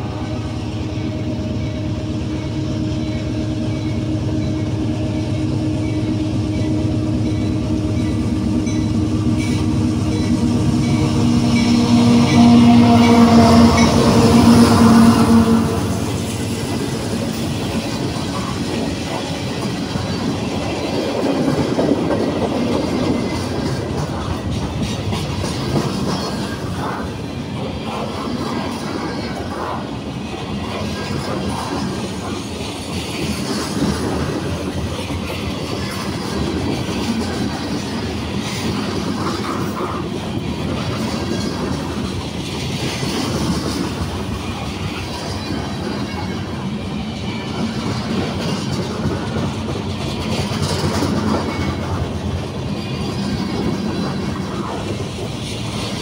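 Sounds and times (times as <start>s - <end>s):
diesel locomotive engine drone: 0.0s - 56.0s
train wheels clattering on rails: 3.0s - 56.0s.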